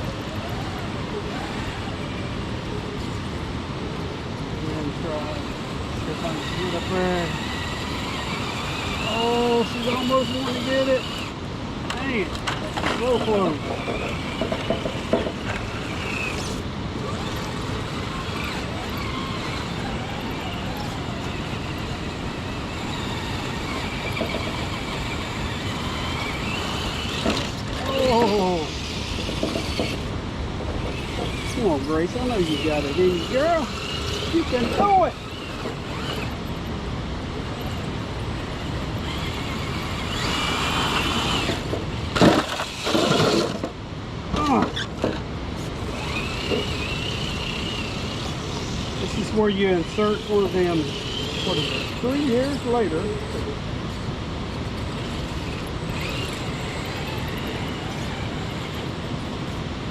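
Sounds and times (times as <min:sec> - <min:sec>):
electric motor whirring: 0:04.7 - 0:43.7, 0:45.6 - 0:59.9.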